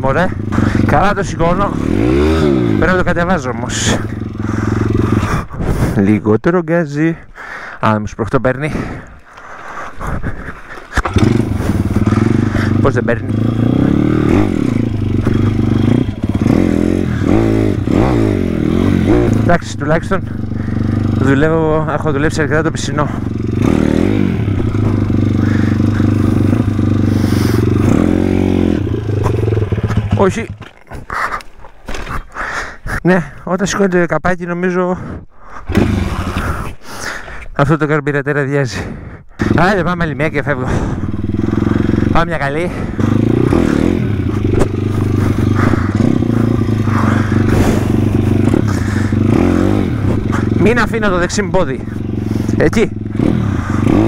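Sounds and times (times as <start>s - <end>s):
pit bike engine revving: 0.0s - 6.3s, 8.7s - 32.6s, 35.6s - 37.2s, 39.3s - 54.0s.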